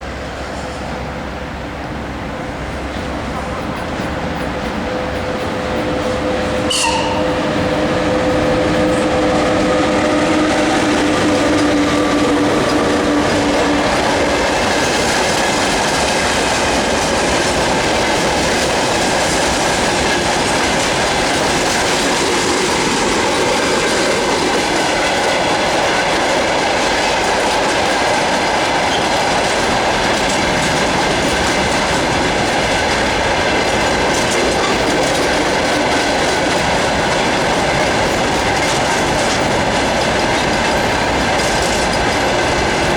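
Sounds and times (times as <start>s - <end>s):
freight train rumble: 0.0s - 42.9s
steady locomotive tone: 0.0s - 42.9s
wagon wheels clacking over rail joints: 2.8s - 42.9s.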